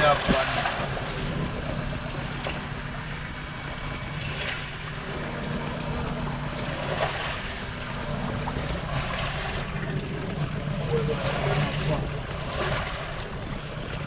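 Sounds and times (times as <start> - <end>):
water washing against boat: 0.0 - 14.0
wind: 0.0 - 14.0.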